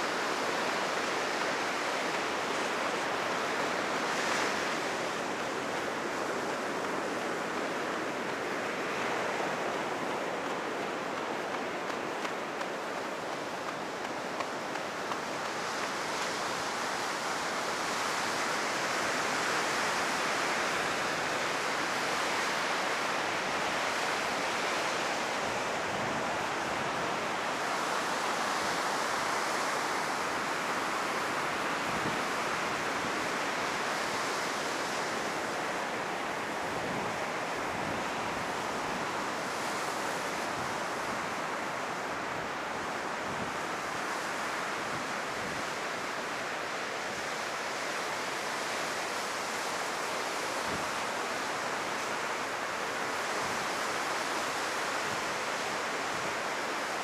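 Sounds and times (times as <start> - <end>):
heavy surf breaking on beach: 0.0 - 57.0.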